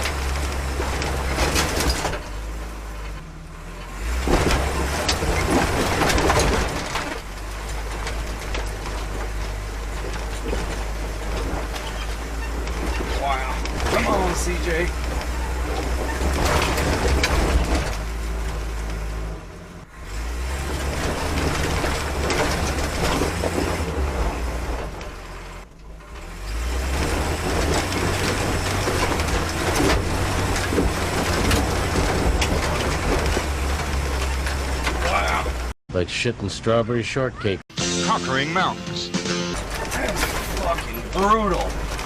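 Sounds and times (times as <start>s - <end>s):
body and tyres rattling over rock: 0.0s - 35.8s, 39.6s - 42.0s
off-road vehicle engine pulling hard: 0.0s - 37.2s, 39.5s - 42.0s.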